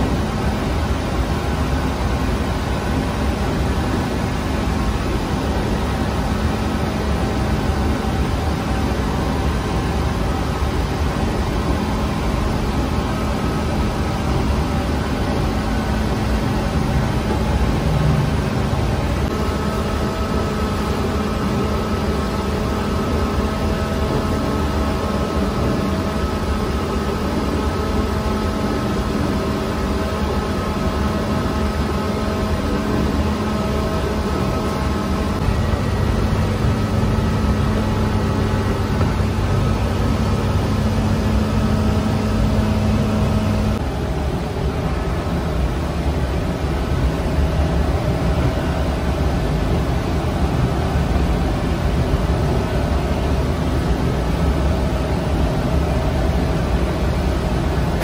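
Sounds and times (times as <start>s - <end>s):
oven machinery hum: 0.0s - 58.0s.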